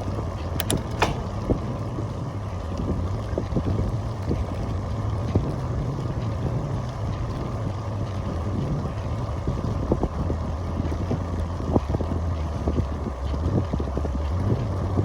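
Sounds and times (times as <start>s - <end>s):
bicycle drivetrain clicks: 0.0s - 15.0s
wind on microphone: 0.0s - 15.0s.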